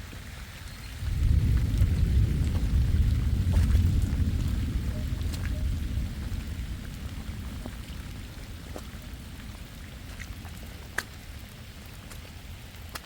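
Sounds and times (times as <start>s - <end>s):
rain falling: 0.0s - 13.0s
low rumble: 0.8s - 12.9s.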